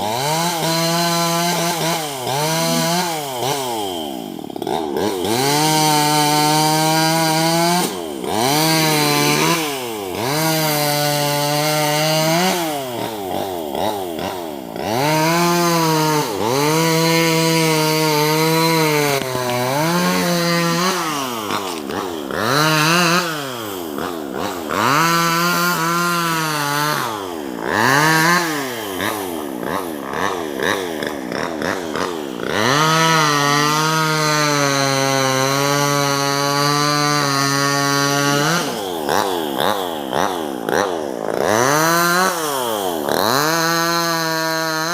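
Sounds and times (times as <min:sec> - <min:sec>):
chainsaw cutting branches: 0:00.0 - 0:44.9.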